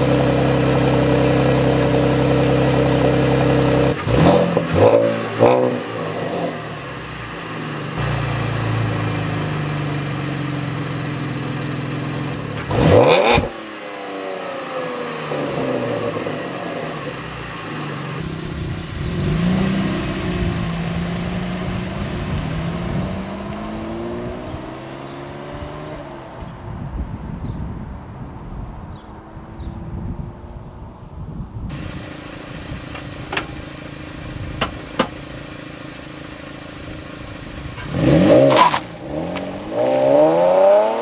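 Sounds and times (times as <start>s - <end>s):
car engine revving: 0.0s - 26.7s, 31.7s - 41.0s.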